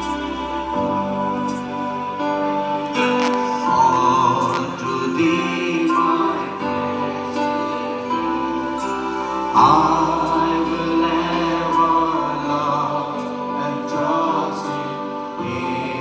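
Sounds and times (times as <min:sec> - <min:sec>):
voices singing church music: 0:00.0 - 0:16.0.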